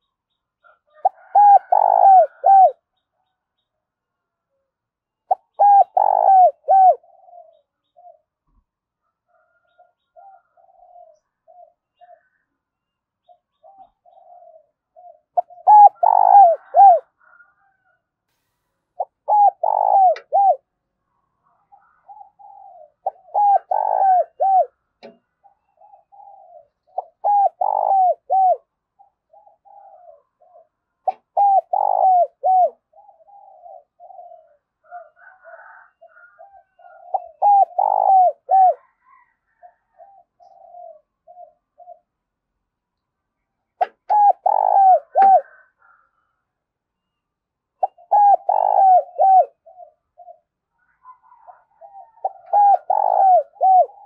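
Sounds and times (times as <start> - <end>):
dove cooing: 0.0 - 2.9, 5.2 - 8.6, 9.2 - 12.4, 13.2 - 18.0, 19.0 - 20.8, 21.4 - 42.2, 43.7 - 46.4, 47.8 - 54.0.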